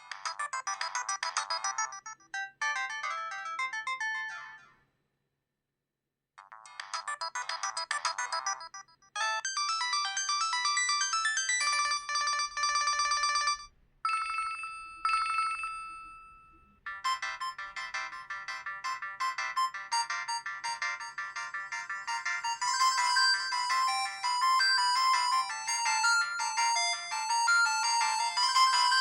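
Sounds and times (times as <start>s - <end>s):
phone ringtone melodies: 0.0s - 4.7s, 6.7s - 29.0s.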